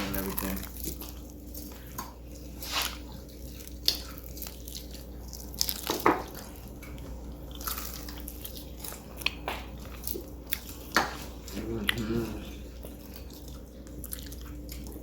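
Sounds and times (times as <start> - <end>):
crunchy chewing of fried food: 0.0 - 15.0.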